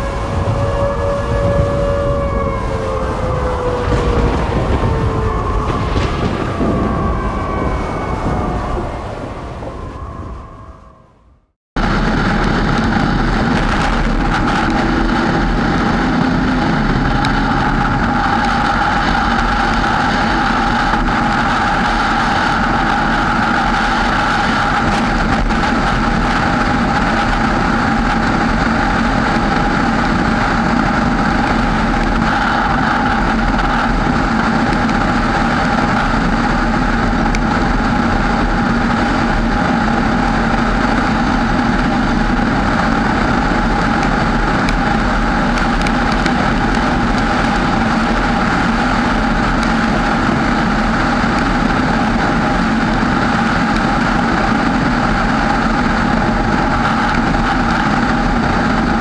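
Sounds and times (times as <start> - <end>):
car engine droning: 0.0 - 59.0
tyres on wet road: 0.0 - 59.0.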